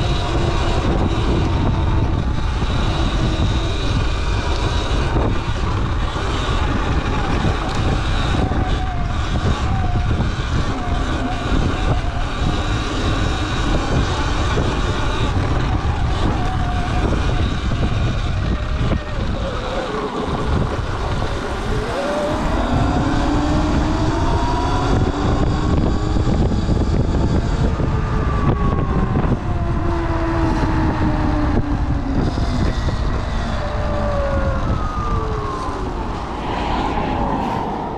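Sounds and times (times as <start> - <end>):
electric motor whine: 0.0 - 37.8
wind rumble on microphone: 0.0 - 37.9.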